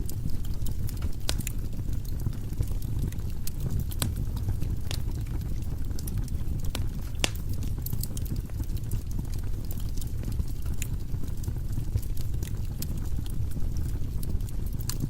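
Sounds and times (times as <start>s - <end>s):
fire rumbling in fireplace: 0.0s - 15.0s
logs crackling and popping: 0.0s - 15.0s.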